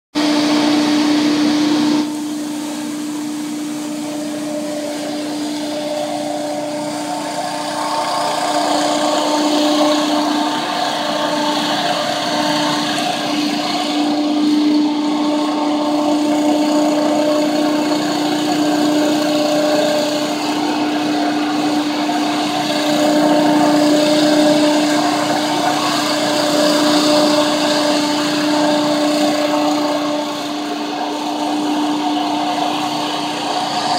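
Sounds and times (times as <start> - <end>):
leaf blower droning: 0.1 - 33.9.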